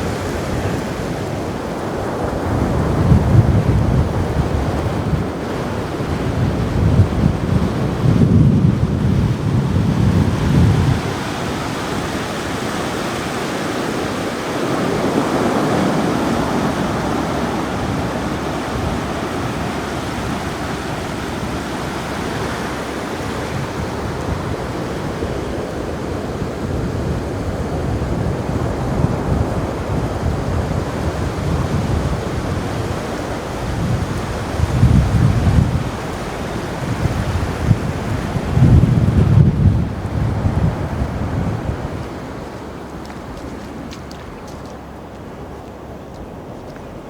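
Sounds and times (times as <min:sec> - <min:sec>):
ocean surf washing up beach: 0:00.0 - 0:47.0
wind buffeting microphone: 0:00.0 - 0:47.0.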